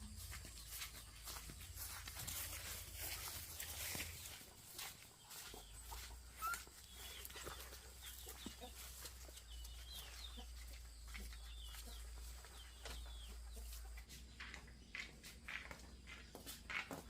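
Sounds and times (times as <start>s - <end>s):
chickens peeping: 0.0s - 17.0s.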